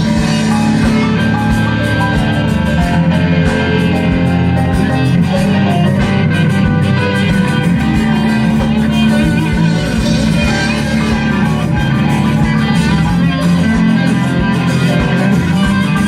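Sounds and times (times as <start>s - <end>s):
bass: 0.0s - 16.0s
drums: 0.0s - 16.0s
guitars: 0.0s - 16.0s.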